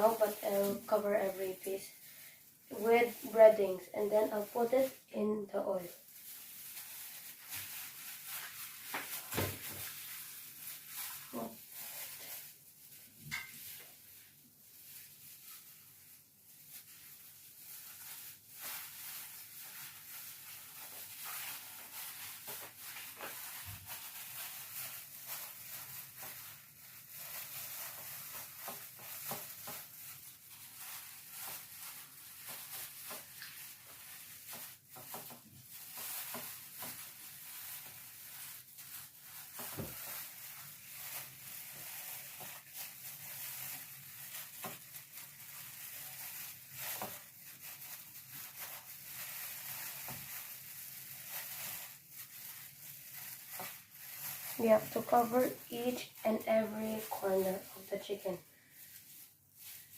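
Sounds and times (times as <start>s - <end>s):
hands rubbing breading on chicken: 6.5s - 59.9s.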